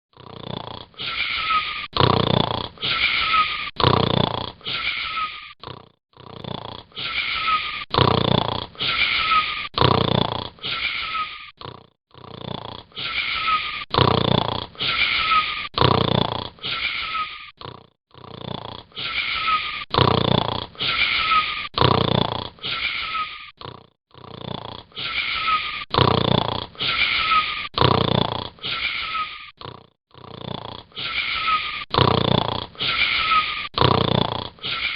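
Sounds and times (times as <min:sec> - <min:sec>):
wheezy rasping snoring: 0:00.1 - 0:34.9.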